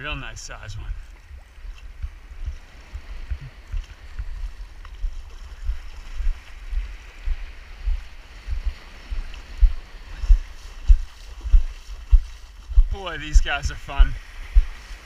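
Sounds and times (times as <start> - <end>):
surf washing in shallows: 0.0 - 15.0
wind buffeting microphone: 0.0 - 15.0.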